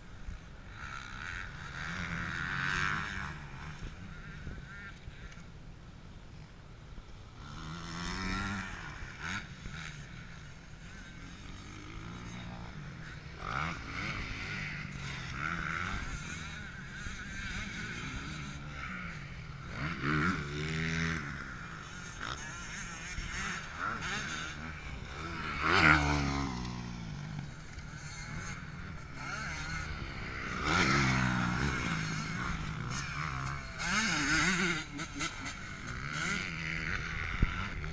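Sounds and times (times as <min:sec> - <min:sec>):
motocross bike engines revving: 0:00.0 - 0:37.9.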